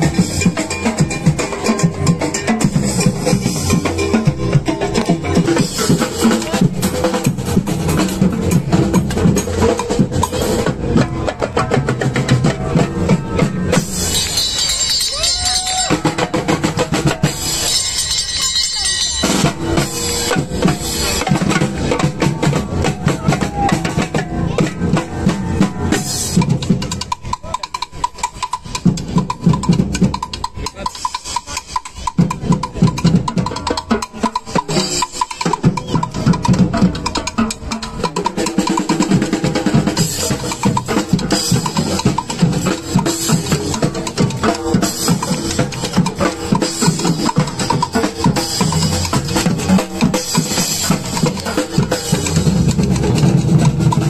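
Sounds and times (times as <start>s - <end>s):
marching drums playing: 0.0s - 54.0s.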